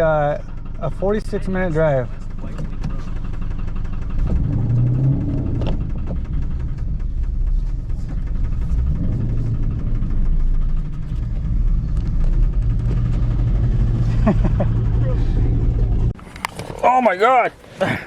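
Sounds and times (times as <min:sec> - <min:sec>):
car engine running: 0:00.0 - 0:18.0
road rumble: 0:00.0 - 0:18.0.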